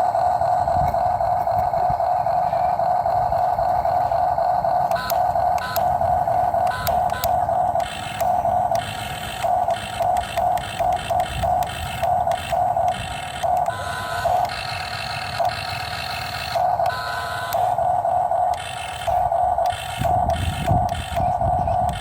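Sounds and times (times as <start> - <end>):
toy electric motors whining: 0.0 - 22.0.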